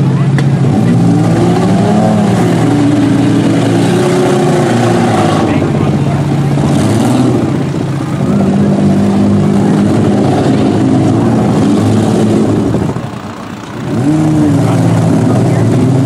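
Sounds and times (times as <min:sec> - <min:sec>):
several car engines revving: 0:00.0 - 0:16.0.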